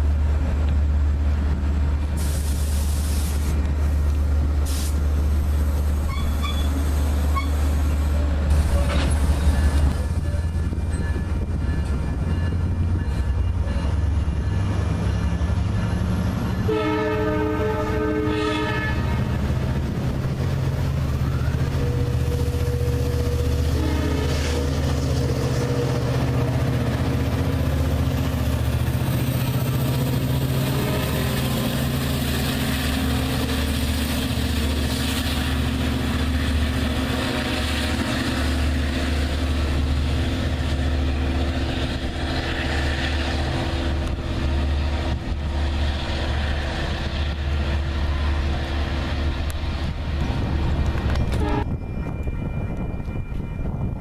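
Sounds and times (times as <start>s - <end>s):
train cars rumbling on rails: 0.0s - 54.0s.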